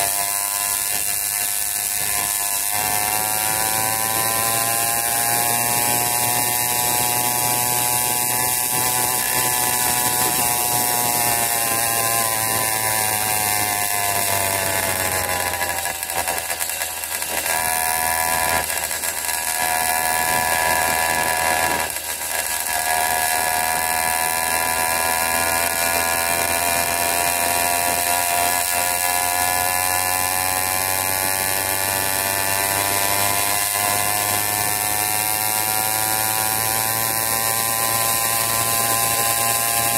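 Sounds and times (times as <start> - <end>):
two-stroke bicycle engine running: 0.0 - 39.9.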